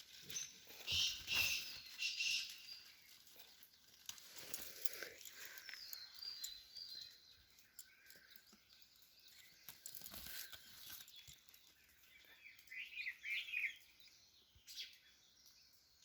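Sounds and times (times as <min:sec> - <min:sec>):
bird chirping: 0:00.0 - 0:03.8, 0:04.9 - 0:16.0.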